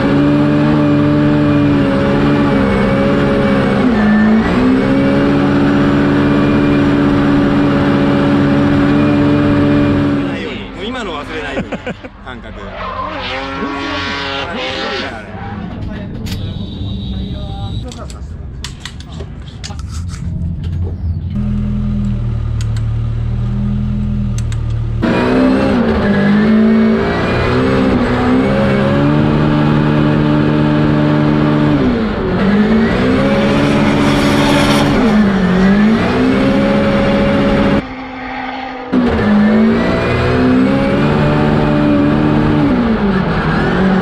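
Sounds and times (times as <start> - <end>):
car engine revving: 0.0 - 17.8, 20.2 - 44.0.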